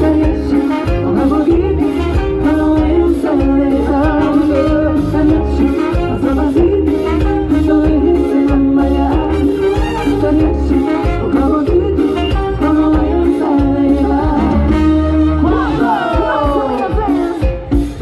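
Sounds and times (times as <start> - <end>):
live salsa band playing: 0.0 - 18.0
person singing: 0.0 - 18.0.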